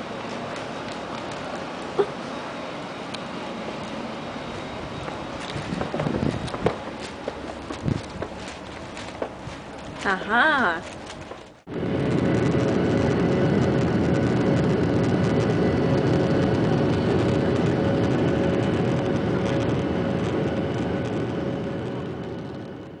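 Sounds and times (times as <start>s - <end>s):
jet engine roar: 0.0s - 10.2s, 11.2s - 23.0s
steady cabin hum: 0.0s - 23.0s
rushing air: 2.4s - 10.0s, 11.0s - 23.0s.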